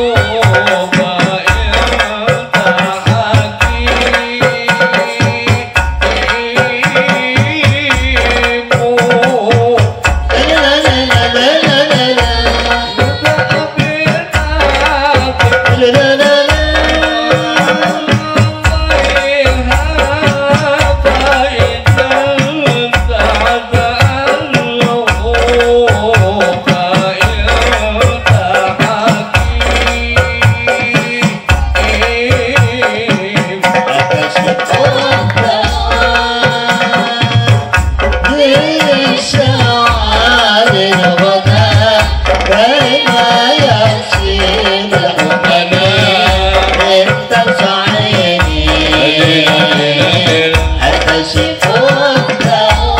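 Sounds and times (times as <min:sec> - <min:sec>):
deep drum beat: 0:00.0 - 0:52.9
men singing over loudspeakers: 0:00.0 - 0:52.9.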